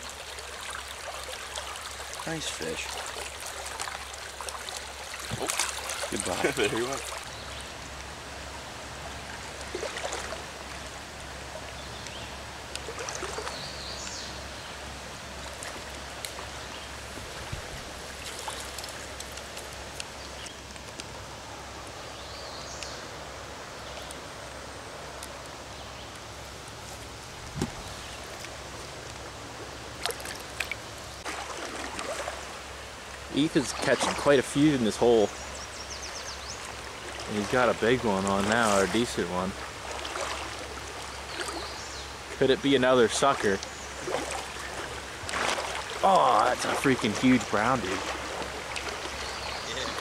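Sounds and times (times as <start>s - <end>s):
water splashes: 0.0s - 21.3s, 26.2s - 50.0s
stream rushing: 0.0s - 50.0s.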